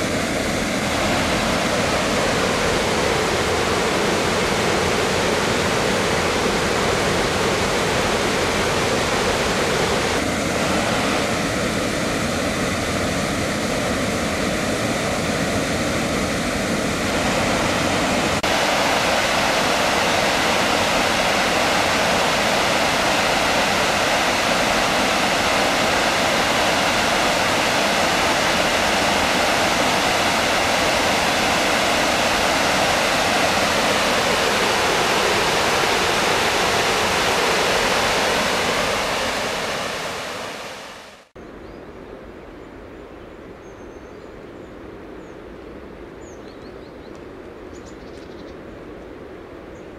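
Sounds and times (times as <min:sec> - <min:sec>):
water rushing down spillway: 0:00.0 - 0:41.3.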